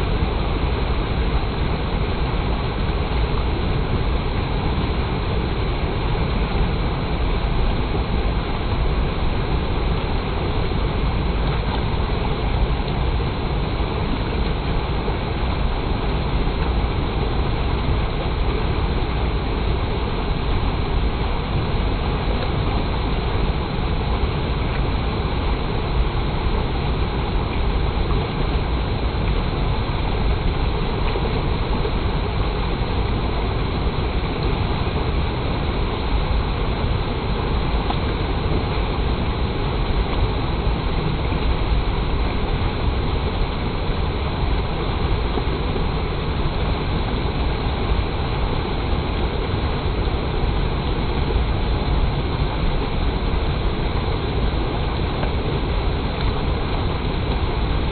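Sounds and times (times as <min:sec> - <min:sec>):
stream water rushing: 0:00.0 - 0:57.9.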